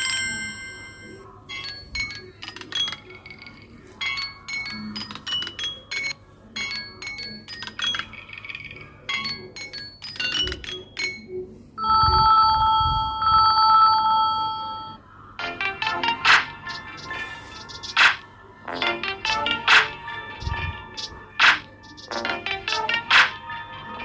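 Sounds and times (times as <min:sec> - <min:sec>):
ringtone melody of sharp notes: 0:00.0 - 0:24.0.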